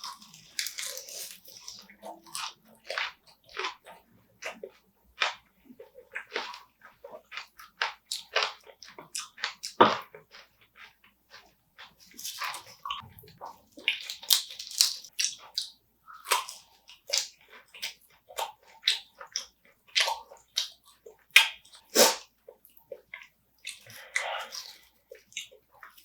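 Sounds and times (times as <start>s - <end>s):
chewing and crunching crab shell: 0.0s - 26.0s.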